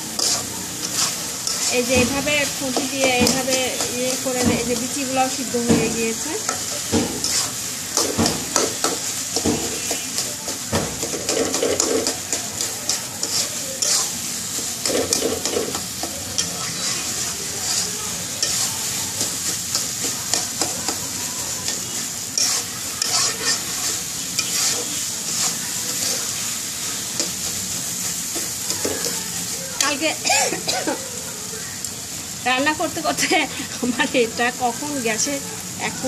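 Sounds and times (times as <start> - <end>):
metal spatula scraping a pan: 0.0 - 29.2
curry sizzling in a pan: 0.0 - 36.0.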